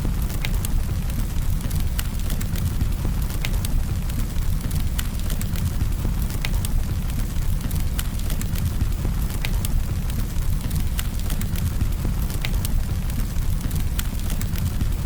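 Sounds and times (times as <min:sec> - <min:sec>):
burning wood crackling and popping: 0:00.0 - 0:15.0.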